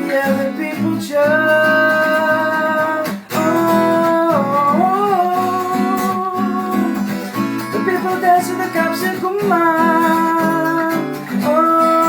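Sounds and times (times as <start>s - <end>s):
acoustic guitar strumming: 0.0s - 12.0s
wordless singing: 0.0s - 12.0s.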